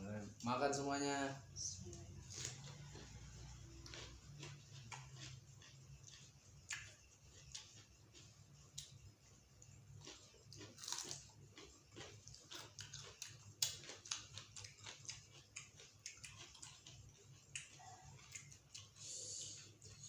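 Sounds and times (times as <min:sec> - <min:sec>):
steady low hum: 0:00.0 - 0:20.0
chewing and lip-smacking: 0:02.3 - 0:20.0.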